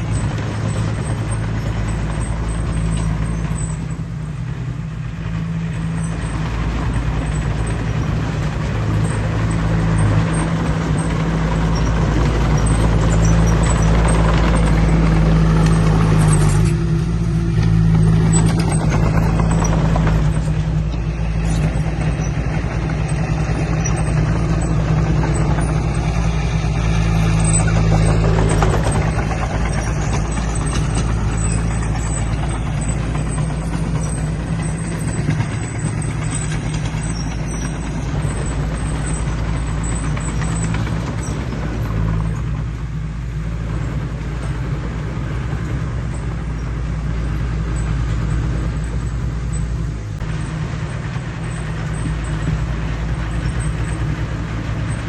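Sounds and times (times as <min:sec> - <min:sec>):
heavy diesel engine droning: 0:00.0 - 0:55.0
mechanical noise: 0:00.0 - 0:55.0.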